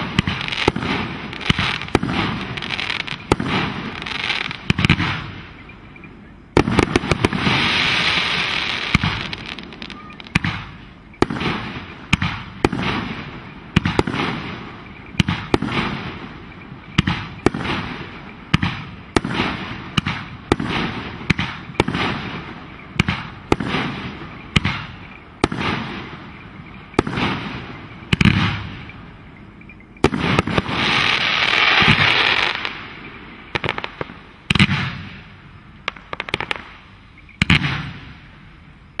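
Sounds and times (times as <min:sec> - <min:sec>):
fireworks bangs: 0:00.0 - 0:05.8, 0:06.5 - 0:29.2, 0:30.0 - 0:38.4
fireworks crackling hiss: 0:00.0 - 0:39.0.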